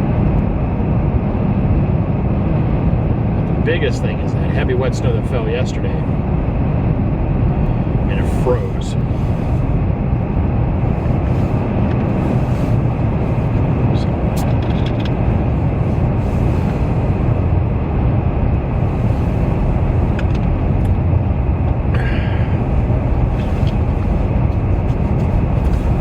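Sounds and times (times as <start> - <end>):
car engine and tyre road noise: 0.0 - 26.0.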